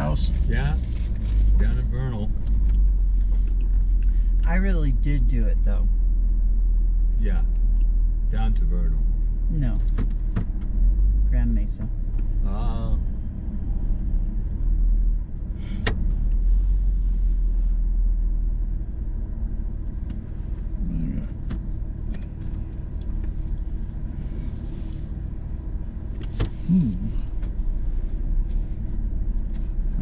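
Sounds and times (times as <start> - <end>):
engine rumble inside vehicle: 0.0 - 30.0.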